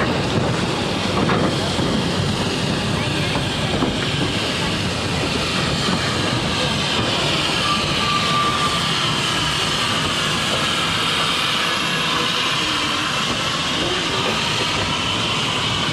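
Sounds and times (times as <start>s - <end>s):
steam locomotive hissing: 0.0s - 15.9s
train moving past: 0.0s - 15.9s.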